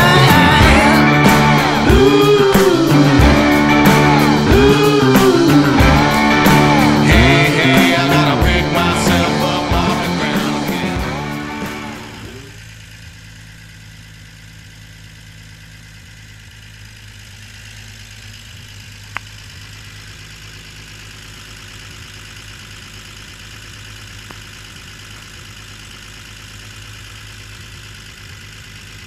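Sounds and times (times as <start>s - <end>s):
pickup engine idling: 0.0s - 29.0s.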